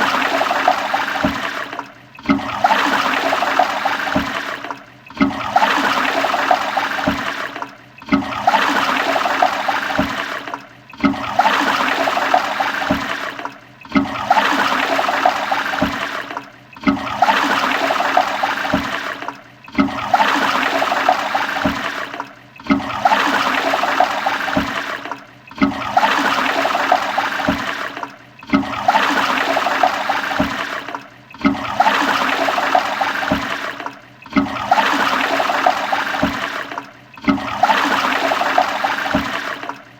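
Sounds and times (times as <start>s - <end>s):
toilet flush: 0.0s - 39.9s.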